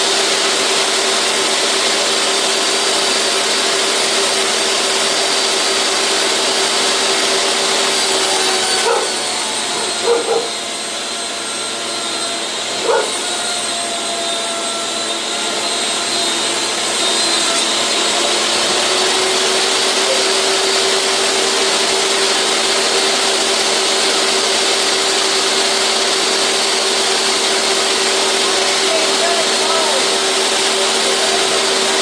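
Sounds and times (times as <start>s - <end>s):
electric workshop machine running: 0.0s - 32.0s.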